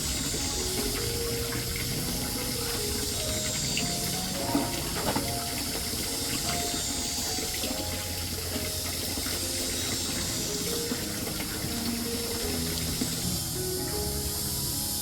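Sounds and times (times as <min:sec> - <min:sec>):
water running from a tap: 0:00.0 - 0:15.0.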